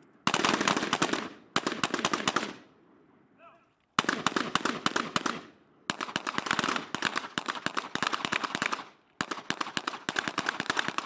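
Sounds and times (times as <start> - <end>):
rapid gunfire: 0.3 - 2.6, 4.0 - 11.0.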